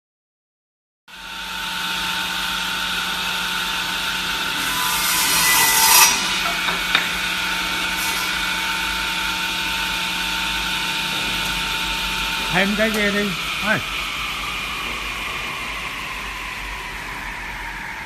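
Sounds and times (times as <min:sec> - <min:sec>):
saw blades whining: 0:01.1 - 0:18.0
saw cutting through wood: 0:01.1 - 0:18.0.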